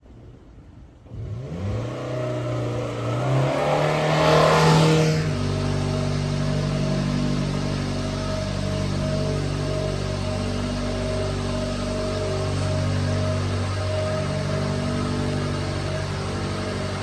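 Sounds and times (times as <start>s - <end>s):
small engine starting and idling: 1.1s - 17.0s.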